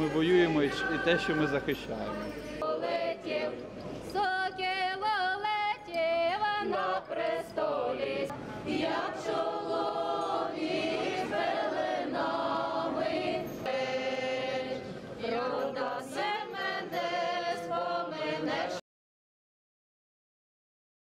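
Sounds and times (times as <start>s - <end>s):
choir singing a carol: 0.0s - 18.8s.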